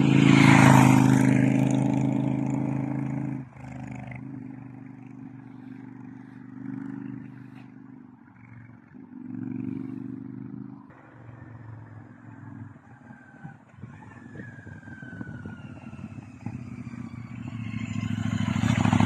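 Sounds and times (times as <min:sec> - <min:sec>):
faint engine whine: 0:00.0 - 0:19.0
motorcycle engine revving: 0:00.0 - 0:19.0.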